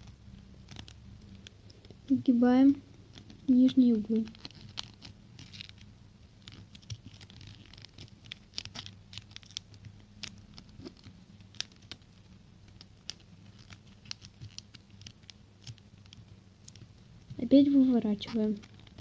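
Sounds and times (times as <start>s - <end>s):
faint low hum: 0.0s - 19.0s
paper rustling and crackling: 3.0s - 19.0s.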